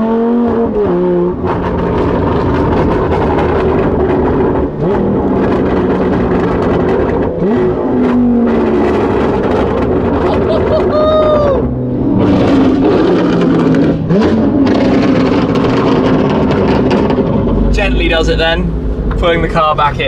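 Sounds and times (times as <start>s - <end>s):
car engine accelerating hard: 0.0s - 20.0s
exhaust crackling: 0.8s - 20.0s.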